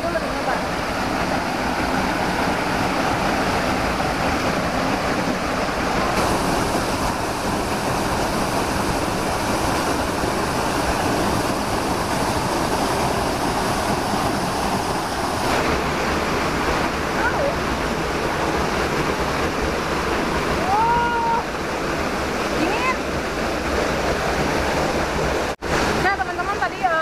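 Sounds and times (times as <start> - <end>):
small waterfall pouring into pool: 0.0 - 27.0.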